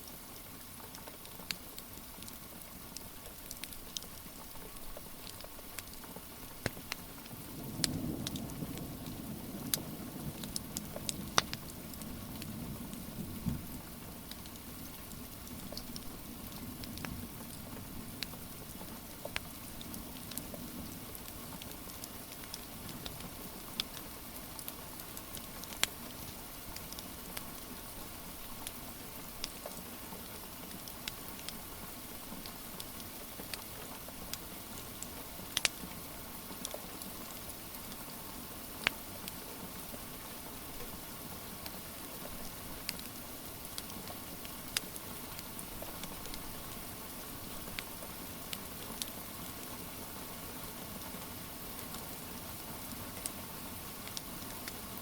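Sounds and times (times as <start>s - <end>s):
steady rain pattering: 0.0s - 55.0s
wood fire crackling: 0.8s - 8.4s, 10.3s - 38.1s, 38.7s - 55.0s.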